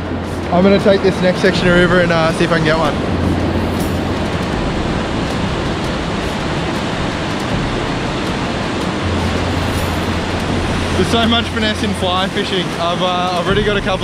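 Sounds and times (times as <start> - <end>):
water rushing over boulders: 0.0 - 14.0.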